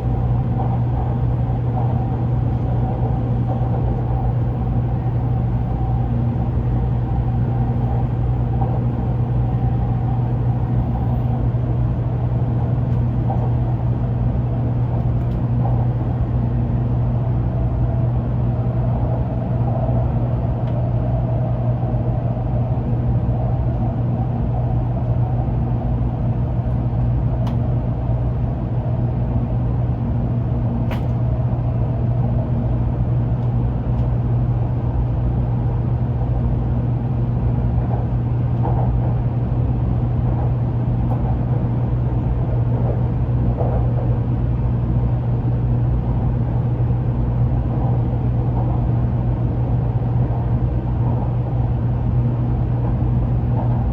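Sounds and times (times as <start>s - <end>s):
train running hum and rumble: 0.0s - 53.9s.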